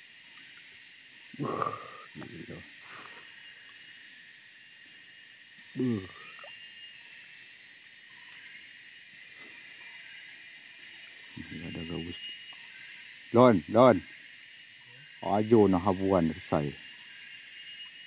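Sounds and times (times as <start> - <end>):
stream ambience hiss: 0.0 - 18.0.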